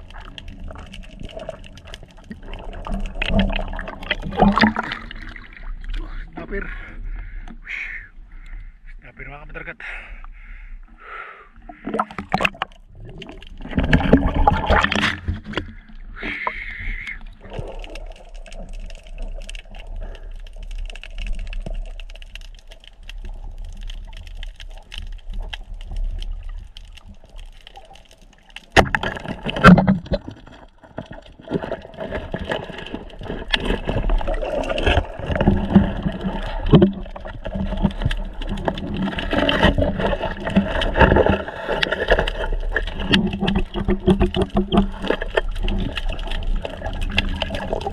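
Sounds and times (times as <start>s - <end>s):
water rushing and gurgling: 0.0s - 6.9s, 11.7s - 47.9s.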